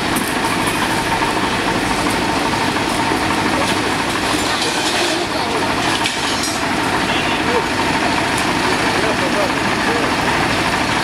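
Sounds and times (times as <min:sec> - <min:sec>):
fire engine idling: 0:00.0 - 0:11.0.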